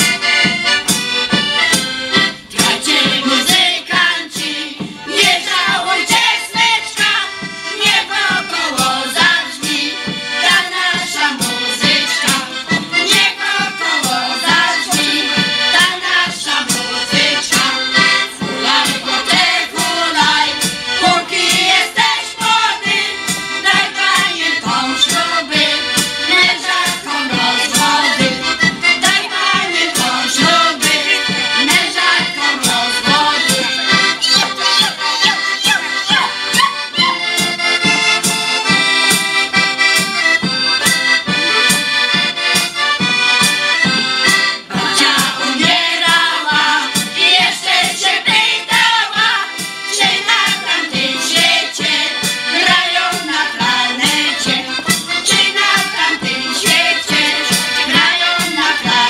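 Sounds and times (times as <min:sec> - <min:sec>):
piano accordion: 0:00.0 - 0:59.0
women's choir singing: 0:01.4 - 0:37.3, 0:44.4 - 0:59.0.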